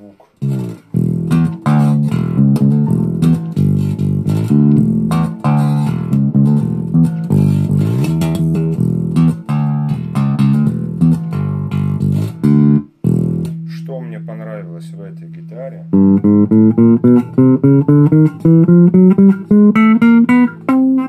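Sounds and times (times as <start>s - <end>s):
electric bass plucked fingerstyle: 0.4s - 13.8s, 14.5s - 21.0s.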